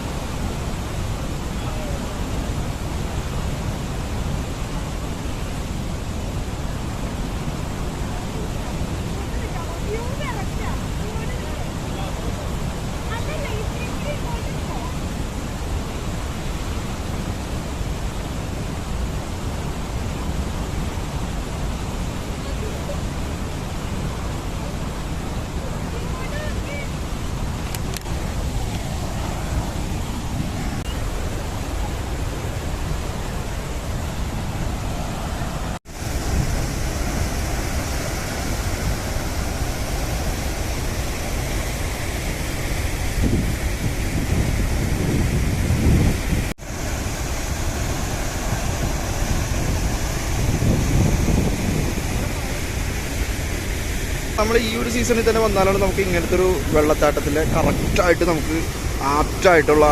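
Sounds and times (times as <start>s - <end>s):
waterfall rushing roar: 0.0s - 59.9s.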